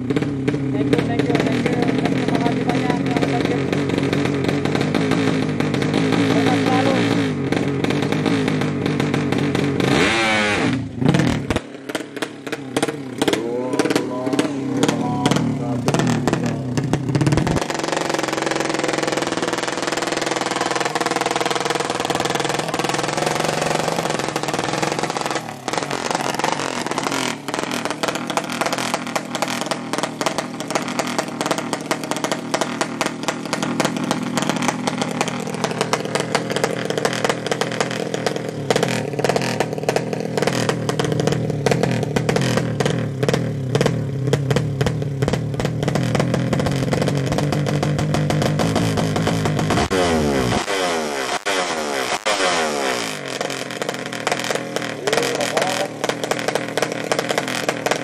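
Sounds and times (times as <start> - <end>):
motorbike engine revving hard: 0.0 - 58.0.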